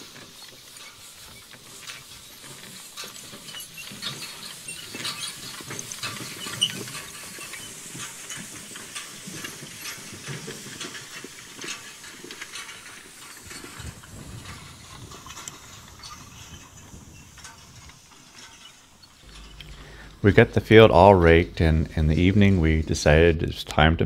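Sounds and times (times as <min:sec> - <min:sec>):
hay rake clicking and rattling: 0:00.0 - 0:23.9
steady hiss: 0:00.0 - 0:24.0.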